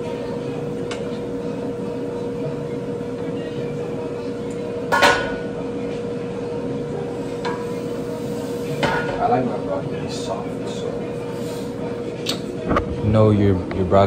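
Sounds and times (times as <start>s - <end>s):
steady kitchen hum: 0.0s - 14.0s.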